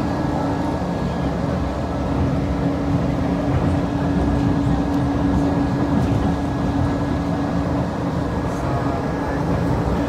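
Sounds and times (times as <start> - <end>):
jet engines idling: 0.0 - 10.0.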